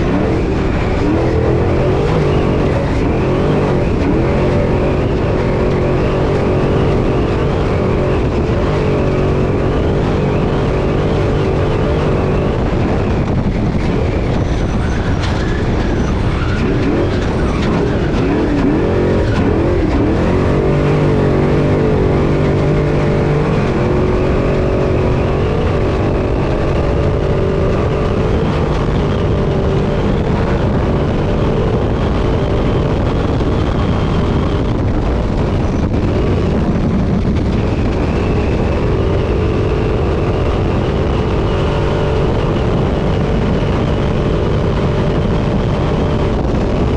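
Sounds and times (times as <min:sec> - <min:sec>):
terrain and wind noise: 0:00.0 - 0:46.9
truck engine revving: 0:00.0 - 0:46.9.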